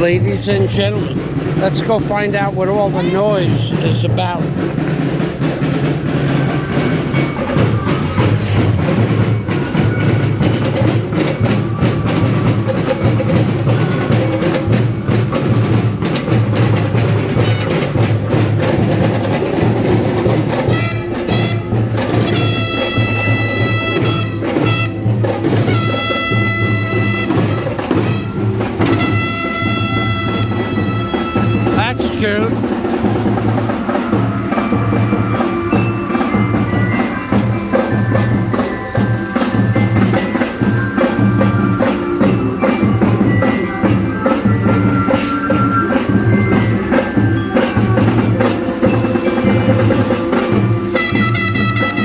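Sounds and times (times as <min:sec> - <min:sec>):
marching band playing brass and drums: 0:00.0 - 0:52.0.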